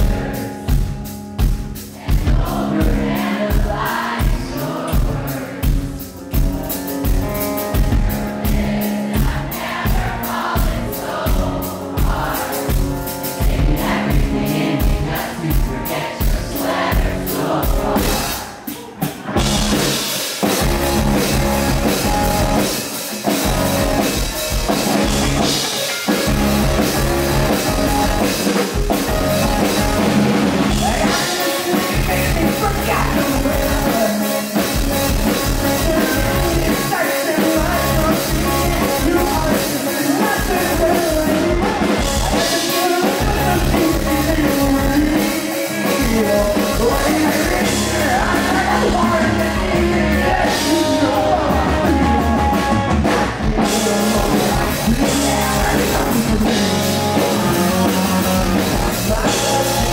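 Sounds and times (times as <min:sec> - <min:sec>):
bass guitar: 0:00.0 - 0:59.9
drum kit: 0:00.0 - 0:59.9
electric guitars: 0:00.0 - 0:59.9
man singing: 0:02.1 - 0:59.9.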